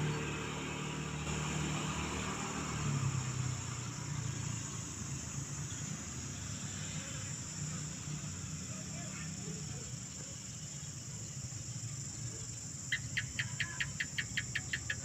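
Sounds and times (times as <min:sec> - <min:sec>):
vehicle engine running: 0:00.0 - 0:15.0
high-pitched insect drone: 0:01.4 - 0:15.0.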